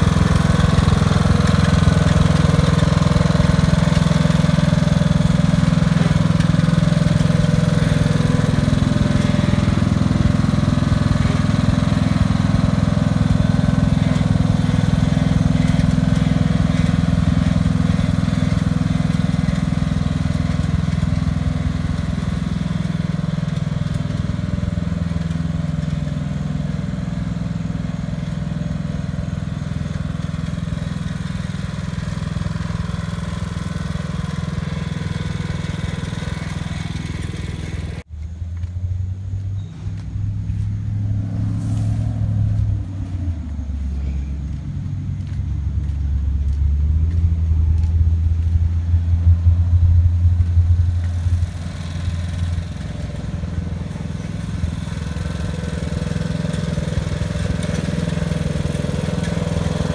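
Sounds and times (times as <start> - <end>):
lawn tractor engine mowing: 0.0 - 59.9
low steady engine hum: 0.0 - 59.9.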